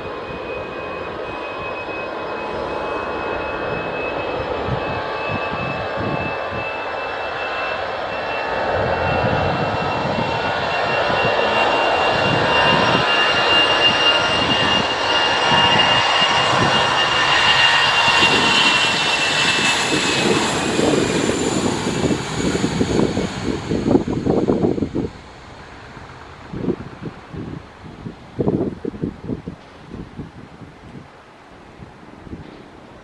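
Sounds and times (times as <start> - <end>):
jet engines passing: 0.0 - 33.0.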